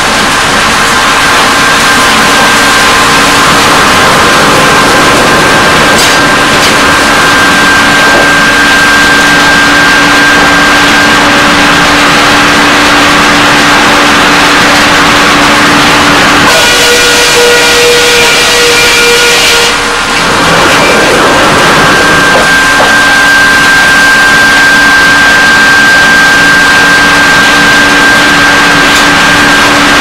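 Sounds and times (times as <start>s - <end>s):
sawmill machinery running: 0.0s - 30.0s
whining saws: 0.9s - 30.0s.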